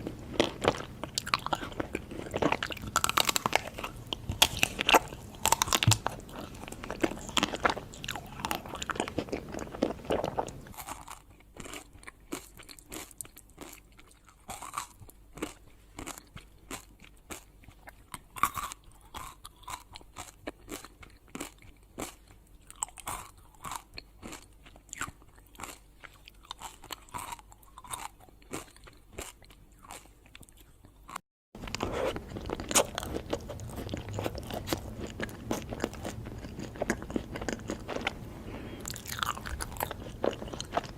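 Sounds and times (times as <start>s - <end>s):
crunchy food being chewed: 0.0s - 40.9s.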